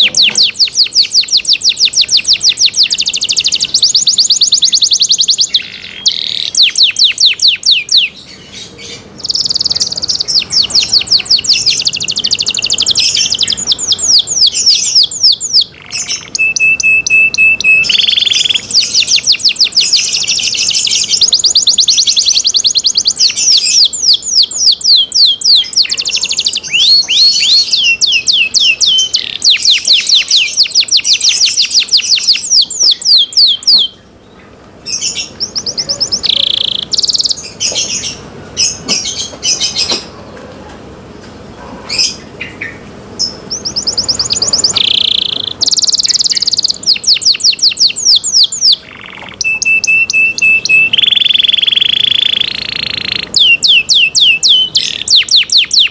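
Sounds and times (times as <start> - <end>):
canary singing: 0.0 - 40.2, 41.5 - 55.9.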